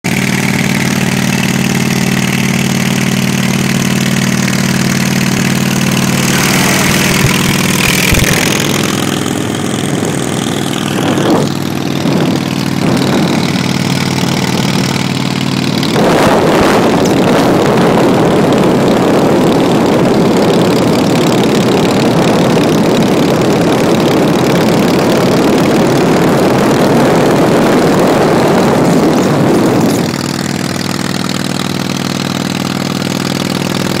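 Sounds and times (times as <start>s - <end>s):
engine drone: 0.0s - 34.0s
rough rushing road noise: 0.0s - 34.0s.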